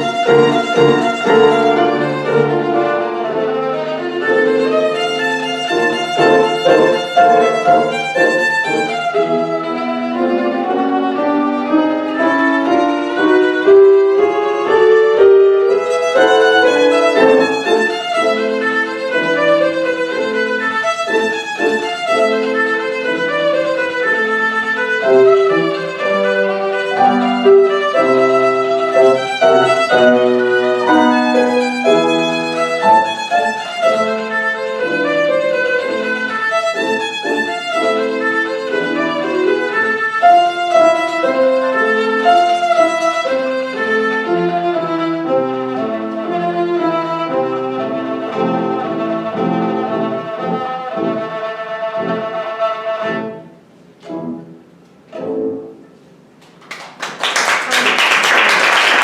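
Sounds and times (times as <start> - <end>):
violin playing fast notes: 0.0 - 53.4.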